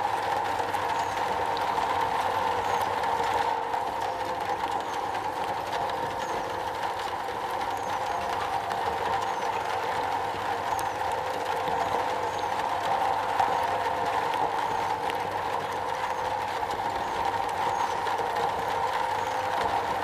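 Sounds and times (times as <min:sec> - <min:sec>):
rain on a metal roof: 0:00.0 - 0:20.0.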